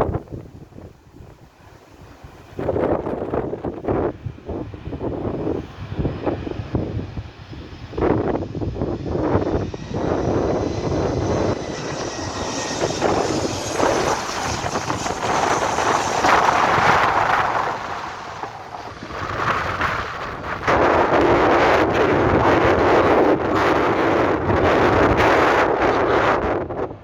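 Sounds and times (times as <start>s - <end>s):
wind buffeting on microphone: 0.0s - 27.0s
jet engines whining: 0.1s - 24.6s.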